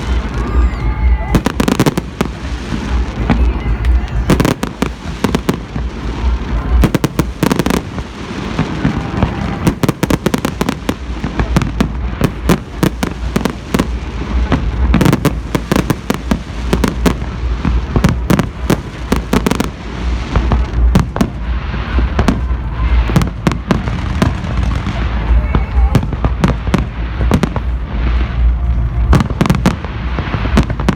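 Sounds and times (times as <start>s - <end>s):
fireworks bangs and crackles: 0.0s - 30.9s
low rumble of booms: 0.0s - 30.9s.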